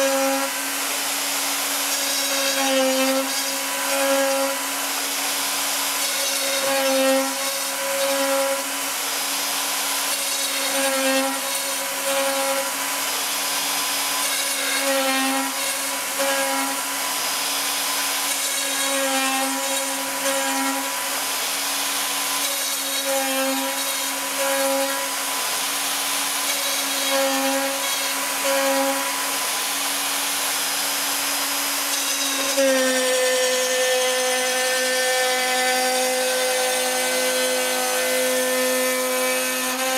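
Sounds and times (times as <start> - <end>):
router motor whine: 0.0 - 39.9.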